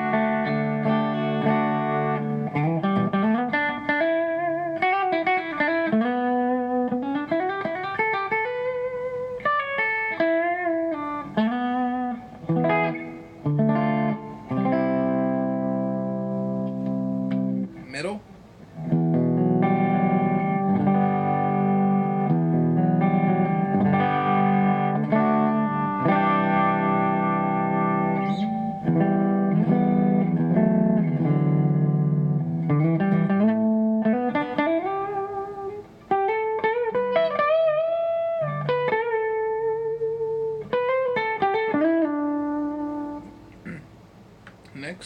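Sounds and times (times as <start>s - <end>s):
clean electric guitar playing: 0.0s - 44.1s.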